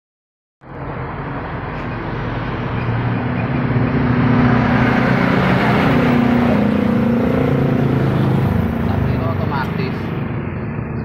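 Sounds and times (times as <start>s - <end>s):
engine running: 0.6s - 11.0s.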